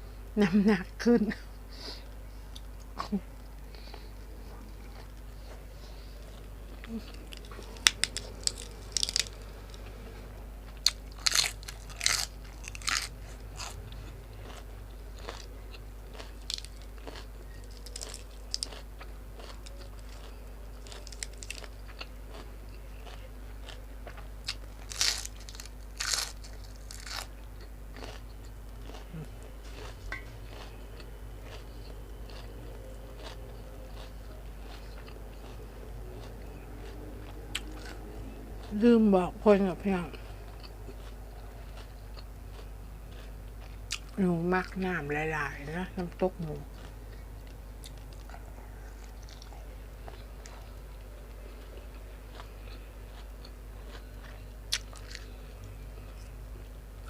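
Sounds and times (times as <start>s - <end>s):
crunching and chewing food: 2.1s - 57.0s.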